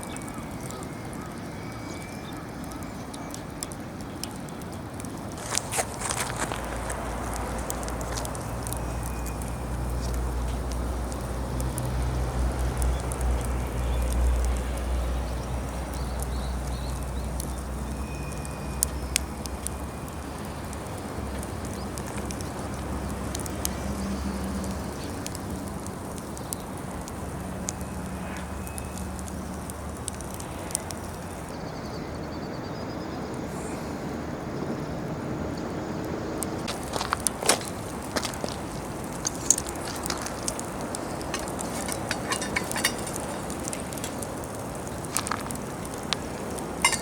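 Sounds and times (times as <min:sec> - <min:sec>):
sharp fire pops: 0:00.0 - 0:31.7, 0:36.4 - 0:47.0
wood fire crackling: 0:00.0 - 0:47.0.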